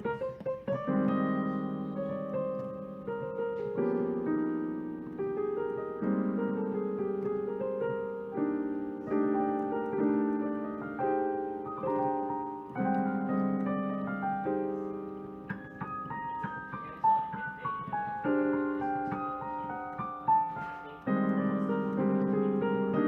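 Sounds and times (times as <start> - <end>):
slow jazz piano chords: 0.0 - 23.0.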